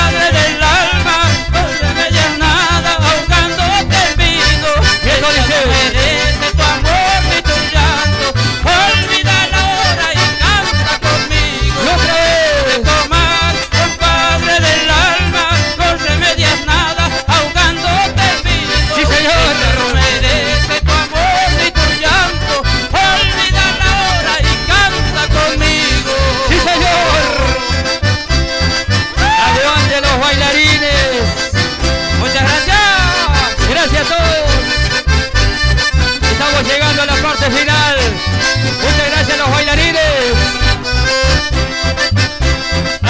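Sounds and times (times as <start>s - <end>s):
acoustic guitars: 0.0s - 43.0s
button accordions: 0.0s - 43.0s
steady bass beat: 0.0s - 43.0s.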